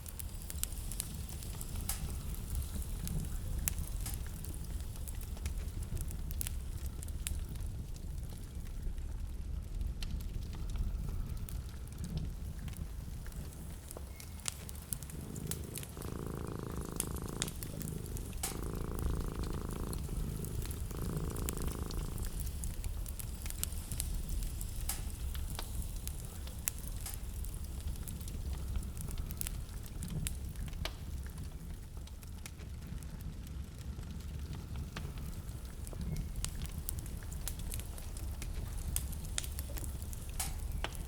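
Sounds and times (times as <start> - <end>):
steady low rumble: 0.0 - 41.0
wood fire crackling and popping: 0.0 - 41.0.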